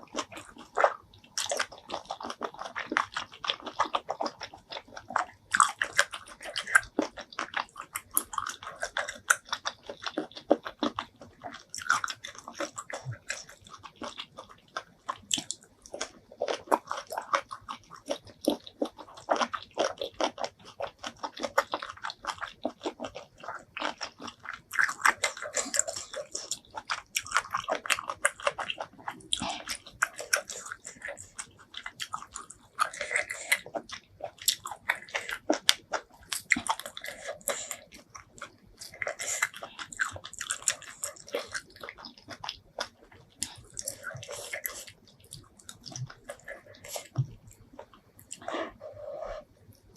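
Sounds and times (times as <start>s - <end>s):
chewing crunchy seafood: 0.0s - 49.9s.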